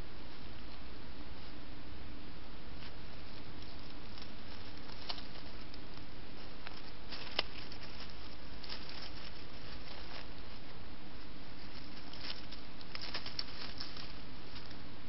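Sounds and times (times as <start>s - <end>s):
microphone hiss: 0.0s - 15.0s
animal rustling dry leaves: 2.6s - 15.0s.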